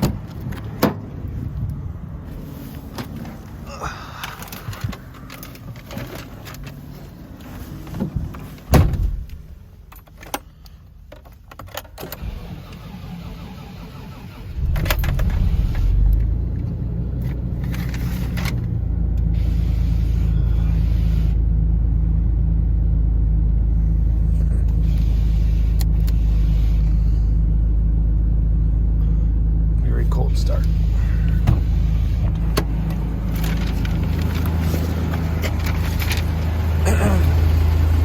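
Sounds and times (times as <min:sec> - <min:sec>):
car engine starting and idling: 0:00.0 - 0:38.0.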